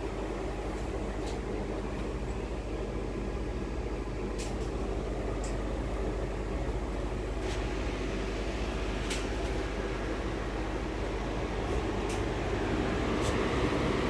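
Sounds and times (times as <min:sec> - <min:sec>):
train coach hum and rumble: 0:00.0 - 0:14.0.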